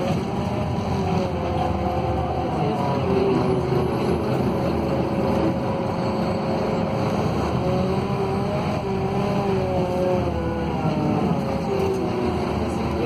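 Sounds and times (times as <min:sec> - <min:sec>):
bus diesel engine running: 0:00.0 - 0:13.0
road rumble: 0:00.0 - 0:13.0.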